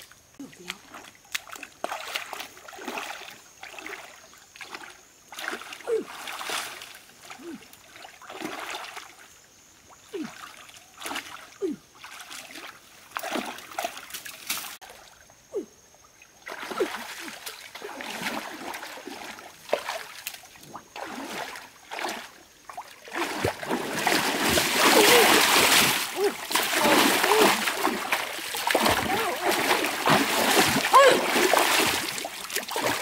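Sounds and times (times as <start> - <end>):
stream water splashing: 0.0 - 33.0.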